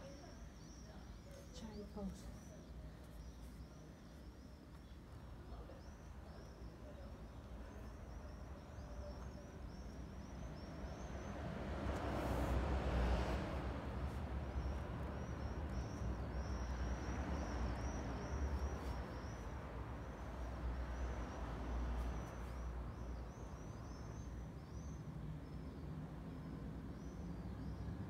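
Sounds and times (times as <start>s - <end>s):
birds chirping: 0.0s - 28.0s
distant traffic rumble: 0.0s - 28.0s.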